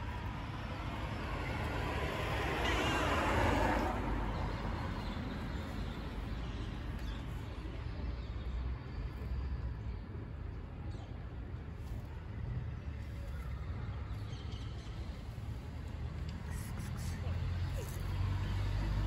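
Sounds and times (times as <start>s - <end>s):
distant road traffic rumble: 0.0s - 19.0s.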